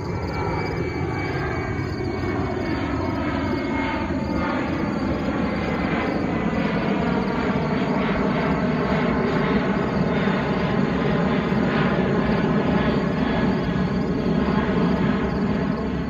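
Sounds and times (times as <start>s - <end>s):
jet airliner flying overhead: 0.0s - 16.0s.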